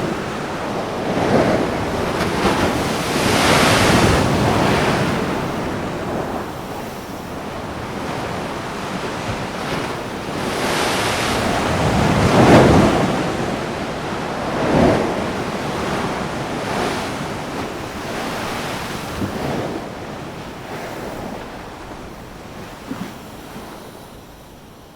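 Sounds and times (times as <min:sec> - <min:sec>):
ocean waves crashing: 0:00.0 - 0:24.6
wind buffeting microphone: 0:00.0 - 0:24.9.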